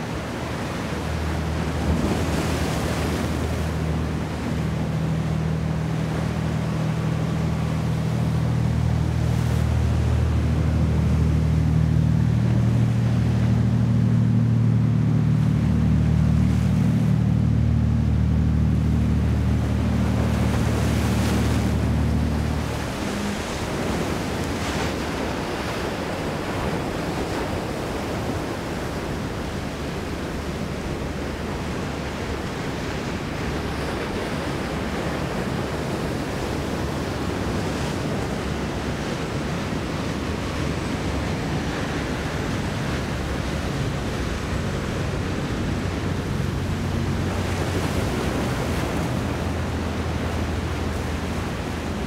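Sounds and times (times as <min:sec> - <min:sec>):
boat engines droning: 0:00.0 - 0:52.0
waves washing: 0:00.0 - 0:52.0.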